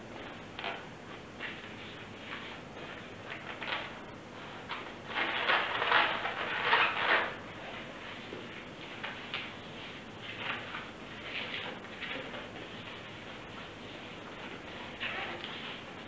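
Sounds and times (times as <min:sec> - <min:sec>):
balloons rubbing together: 0:01.4 - 0:16.0.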